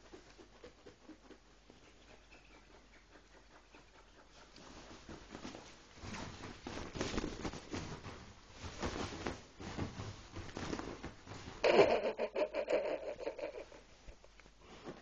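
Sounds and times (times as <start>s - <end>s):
dog paws pattering and scuffing: 0.0s - 11.6s, 13.6s - 15.0s.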